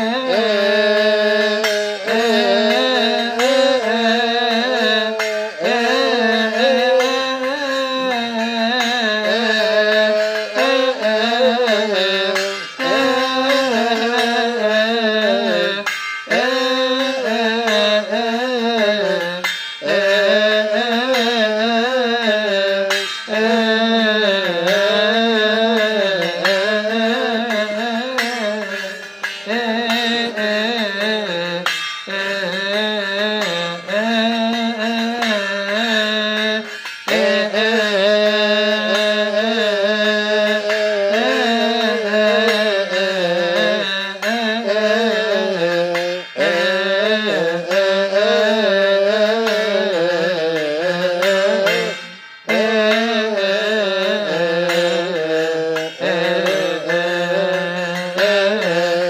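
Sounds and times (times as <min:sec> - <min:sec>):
hand cymbals struck: 0:00.0 - 0:59.0
voices chanting a hymn: 0:00.0 - 0:59.0.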